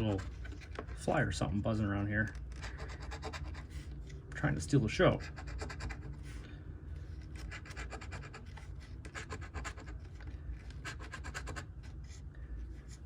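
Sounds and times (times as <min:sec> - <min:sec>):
lottery ticket being scratched: 0:00.0 - 0:06.3, 0:07.2 - 0:12.2.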